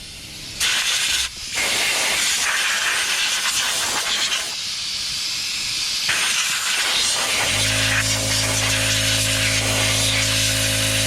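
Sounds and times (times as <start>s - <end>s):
pressurised spray hissing: 0.0s - 11.0s.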